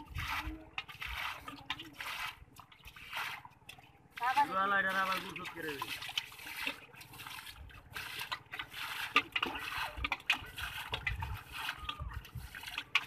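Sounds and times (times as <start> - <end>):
muddy water splashing: 0.0 - 13.0.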